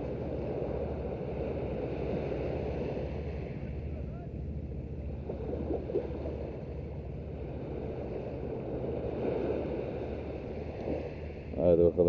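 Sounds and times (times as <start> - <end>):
small waves washing on sand: 0.0 - 4.1, 5.0 - 12.0.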